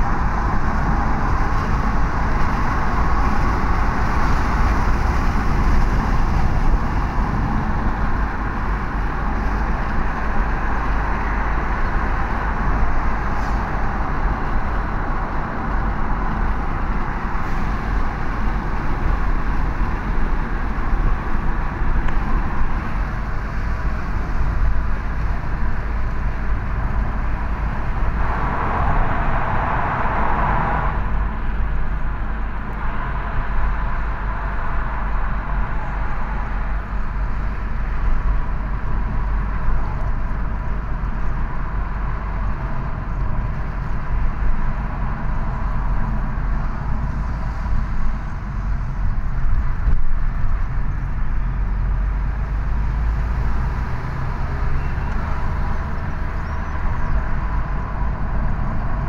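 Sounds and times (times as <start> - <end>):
tyres hissing on road: 0.0 - 49.8
engine and tyre rumble: 0.0 - 59.0.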